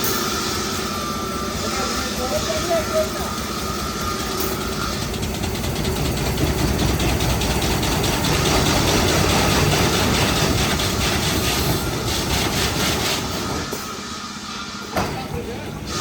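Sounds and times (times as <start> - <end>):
debarking machine rumbling and clattering: 0.0 - 16.0.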